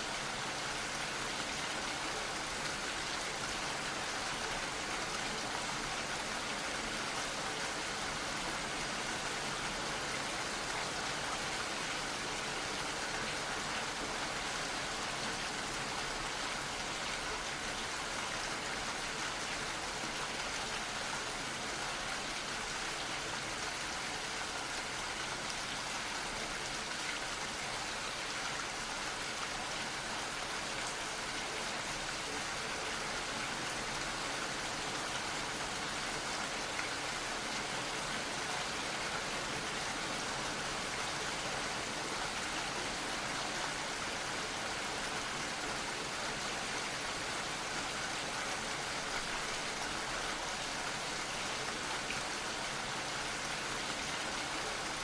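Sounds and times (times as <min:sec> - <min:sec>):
steady gentle rain: 0:00.0 - 0:55.0.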